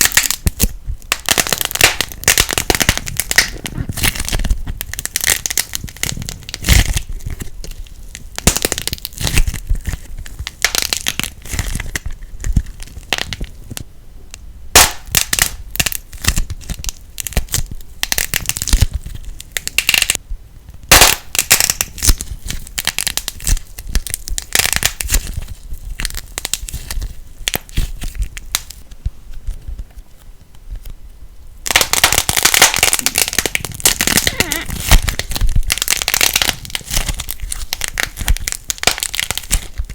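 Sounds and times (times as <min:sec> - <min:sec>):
slime crackling and popping: 0:00.0 - 0:31.0, 0:31.6 - 0:39.9.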